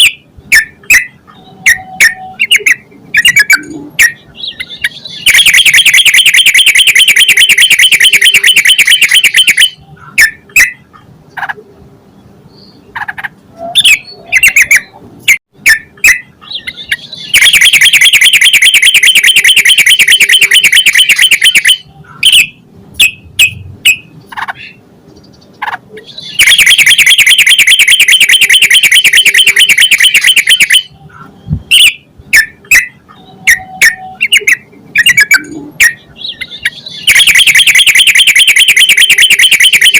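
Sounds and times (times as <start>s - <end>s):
bird chirps: 0.0s - 11.0s, 13.6s - 15.0s, 15.7s - 39.9s
bird chattering song: 0.0s - 11.6s, 12.2s - 39.9s.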